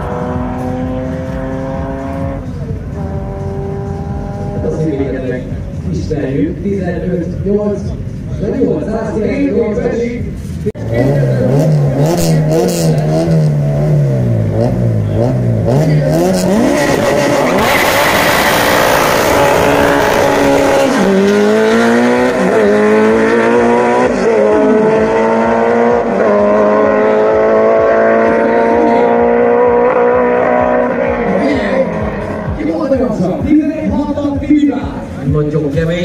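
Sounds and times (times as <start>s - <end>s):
race car engine revving and accelerating: 0.0s - 36.0s.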